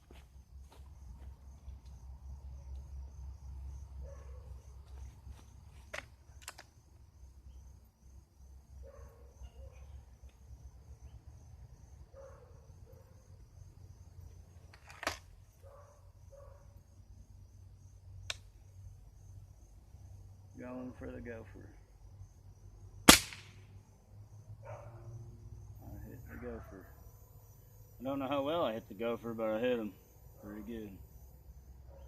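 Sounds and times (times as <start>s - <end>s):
cricket trill: 0.0s - 32.0s.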